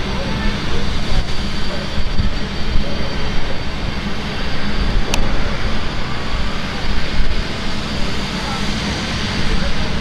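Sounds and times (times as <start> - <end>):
steam locomotive rumble and hiss: 0.0 - 10.0.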